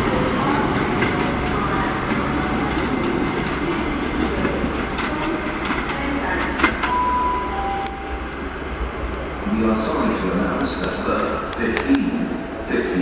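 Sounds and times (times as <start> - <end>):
train rumble: 0.0 - 13.0
train wheels clicking on rails: 0.0 - 13.0.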